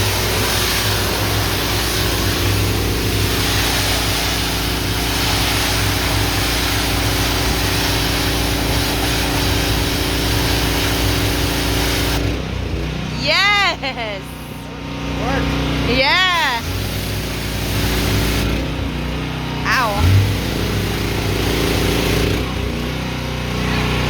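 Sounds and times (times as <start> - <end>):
pressure washer engine running: 0.0 - 24.0.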